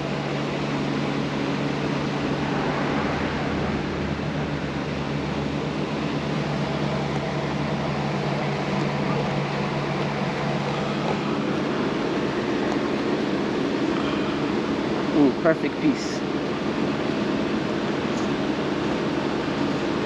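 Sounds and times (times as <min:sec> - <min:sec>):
machinery humming and hissing: 0:00.0 - 0:20.0.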